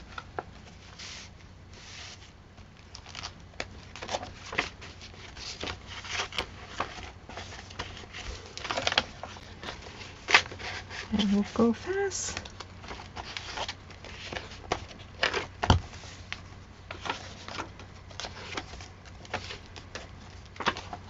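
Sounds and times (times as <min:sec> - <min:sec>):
paper pages rustling: 0:00.0 - 0:21.0.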